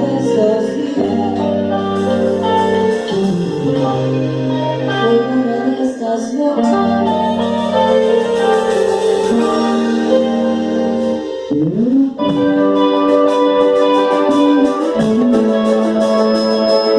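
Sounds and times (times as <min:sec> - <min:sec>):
live band music with guitar: 0:00.0 - 0:16.9.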